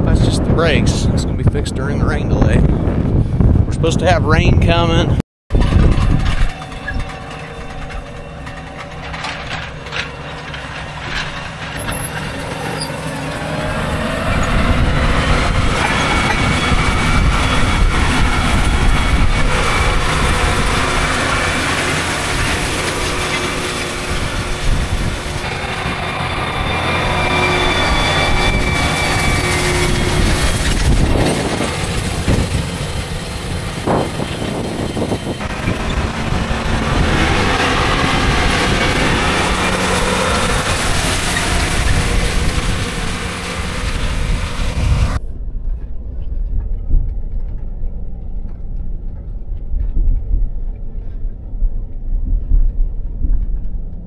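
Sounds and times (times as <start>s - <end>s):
tractor engine drone: 0.0s - 54.0s.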